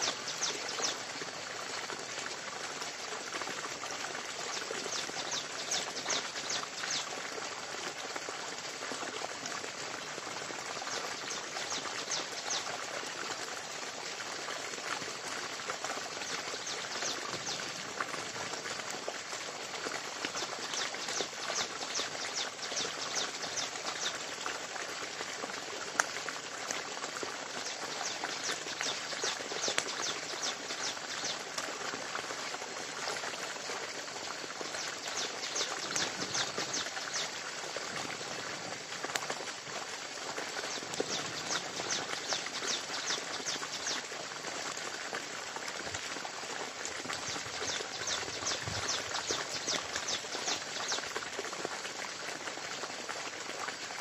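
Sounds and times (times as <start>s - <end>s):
steady forest hiss: 0.0s - 54.0s.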